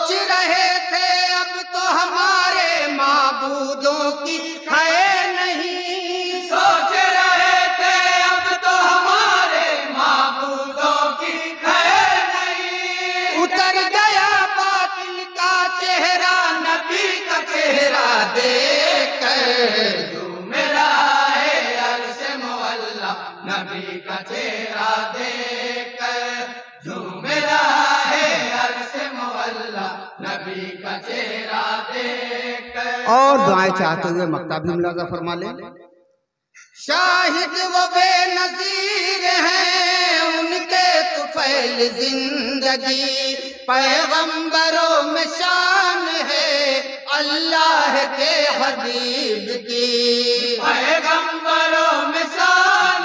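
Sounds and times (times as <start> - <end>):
men chanting unaccompanied: 0.0 - 33.7, 36.9 - 53.0.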